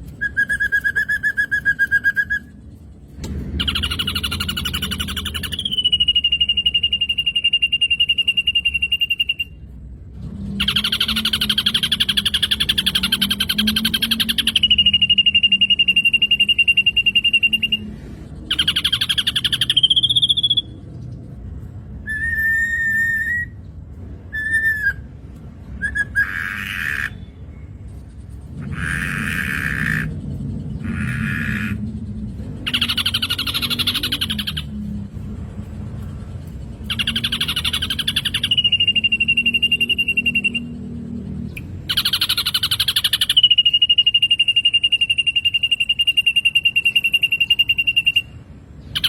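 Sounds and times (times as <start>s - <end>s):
bird trilled whistling song: 0.0s - 2.6s, 3.5s - 9.8s, 10.5s - 20.9s, 21.9s - 27.7s, 32.6s - 35.3s, 36.8s - 49.0s
bird whistles and chirps: 0.0s - 2.6s, 3.3s - 9.8s, 10.5s - 20.8s, 22.0s - 27.7s, 32.6s - 35.0s, 36.8s - 49.0s.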